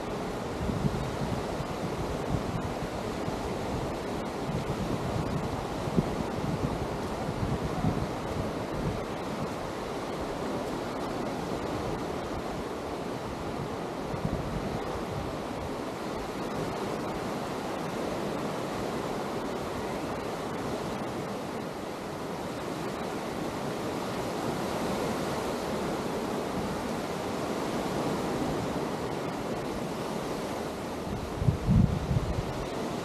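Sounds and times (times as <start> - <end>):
surf washing onto beach: 0.0 - 33.0.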